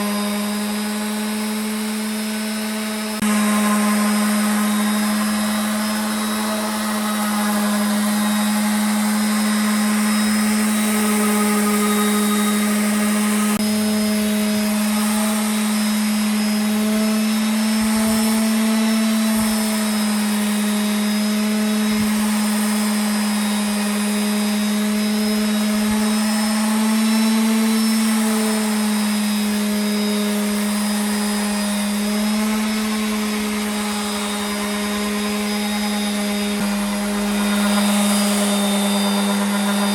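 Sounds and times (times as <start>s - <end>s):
electric power tool motor: 0.0s - 39.9s.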